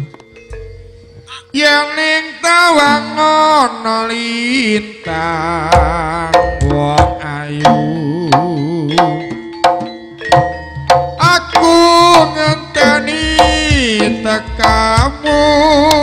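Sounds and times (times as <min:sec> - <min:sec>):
wavering gamelan melody: 0:00.0 - 0:16.0.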